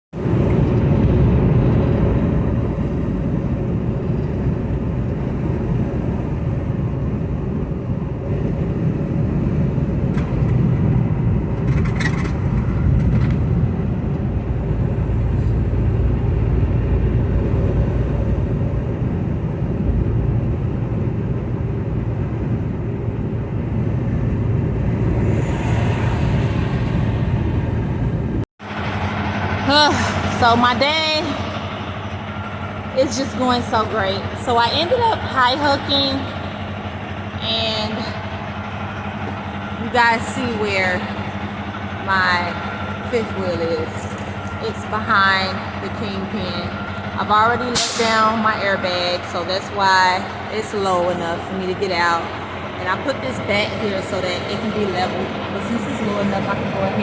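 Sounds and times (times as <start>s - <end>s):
diesel truck engine rumbling: 0.1s - 57.0s.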